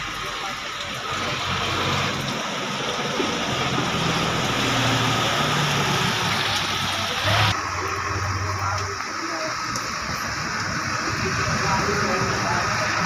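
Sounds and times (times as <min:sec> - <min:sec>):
heavy rain pouring: 0:00.0 - 0:13.0
vehicle engine humming: 0:00.0 - 0:13.0.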